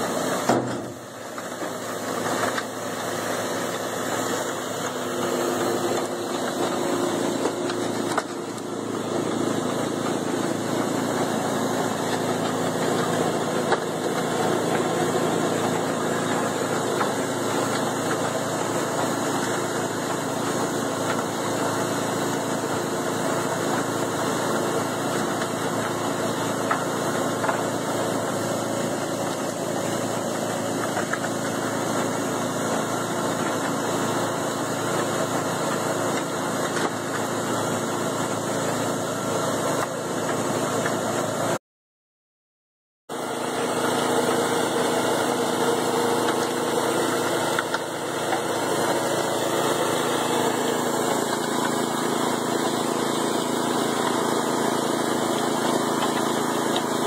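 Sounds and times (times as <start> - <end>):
concrete mixer running: 0.0 - 41.6, 43.1 - 57.0.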